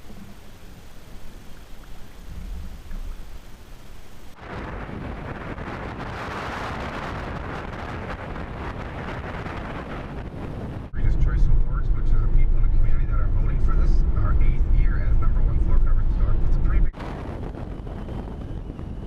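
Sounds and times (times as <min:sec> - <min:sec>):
steady rushing noise: 0:00.0 - 0:19.0
wind rumble on microphone: 0:00.0 - 0:19.0.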